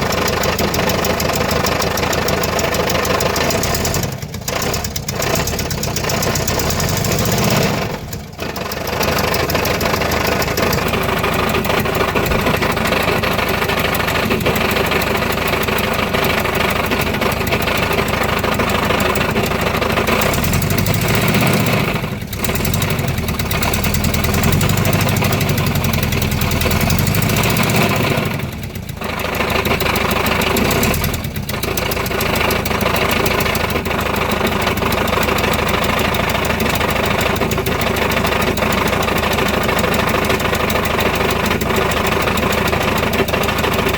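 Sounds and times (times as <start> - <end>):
van engine idling: 0.0 - 43.9.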